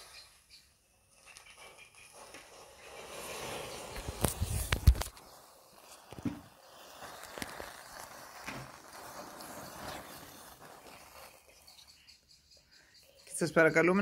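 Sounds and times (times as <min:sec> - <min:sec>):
flame hissing: 0:00.0 - 0:13.6
crackles and pops: 0:00.0 - 0:14.0.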